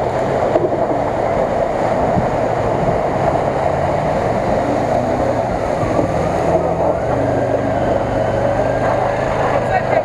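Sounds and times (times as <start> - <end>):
truck engine under load: 0.0 - 10.0.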